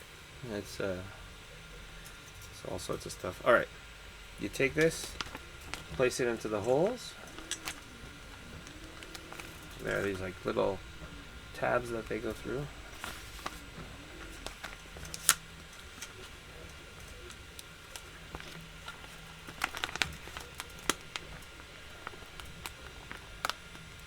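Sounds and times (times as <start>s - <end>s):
light plastic crinkling: 1.0s - 24.0s.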